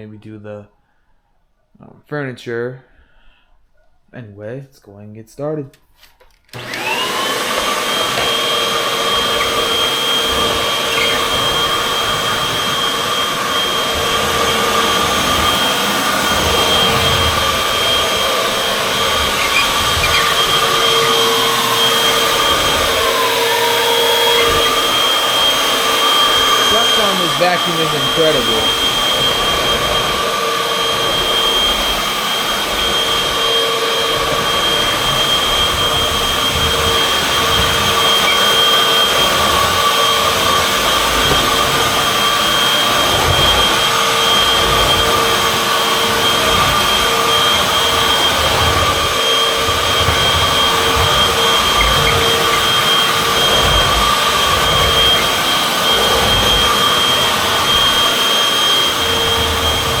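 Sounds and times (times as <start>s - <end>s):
vacuum cleaner running: 6.5s - 60.0s.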